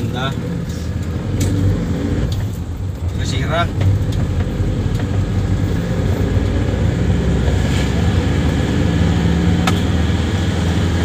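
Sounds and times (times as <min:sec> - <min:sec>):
engine and drivetrain rumble: 0:00.0 - 0:11.0.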